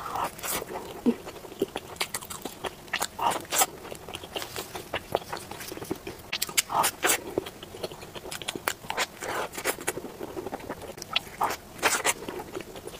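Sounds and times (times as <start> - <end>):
chewing crisp pastry: 0.0 - 12.9
biting into pastry: 0.2 - 12.9.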